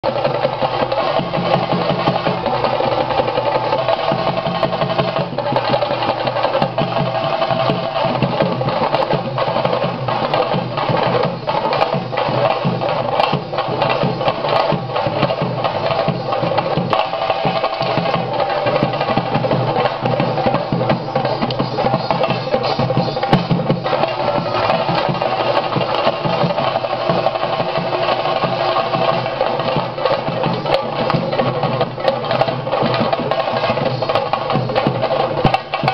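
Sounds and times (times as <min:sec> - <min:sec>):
fast drumming: 0:00.0 - 0:35.9.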